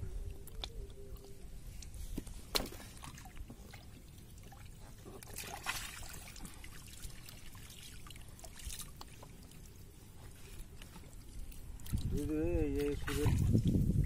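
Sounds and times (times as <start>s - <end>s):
water trickling and dripping: 0.2s - 14.0s.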